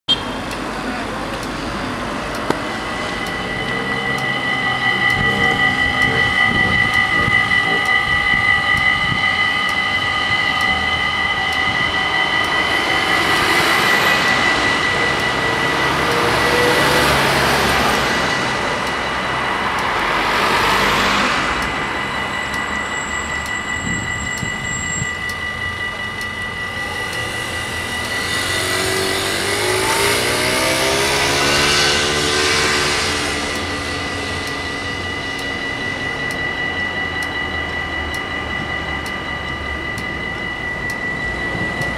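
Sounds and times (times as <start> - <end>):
diesel train engine: 0.0 - 41.9
road vehicles passing: 0.1 - 41.9
level crossing bells ringing: 0.2 - 41.9.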